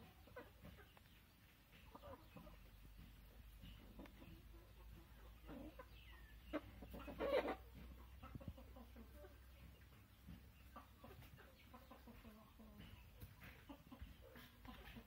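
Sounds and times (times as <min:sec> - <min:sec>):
chickens clucking softly: 0:00.0 - 0:15.0.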